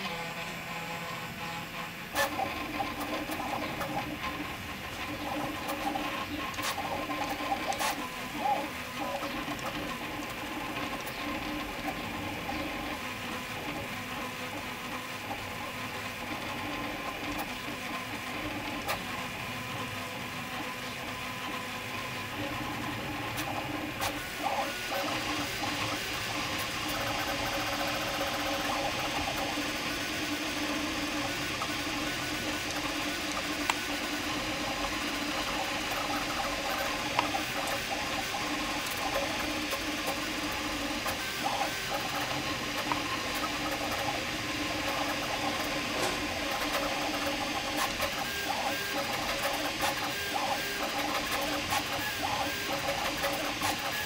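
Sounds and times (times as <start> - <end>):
stepper motors whining: 0.0 - 54.0.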